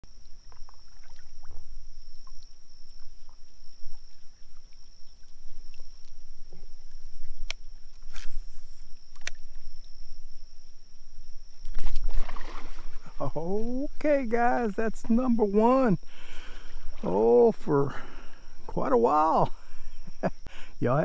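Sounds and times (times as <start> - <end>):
steady high-pitched whine: 0.0 - 21.0.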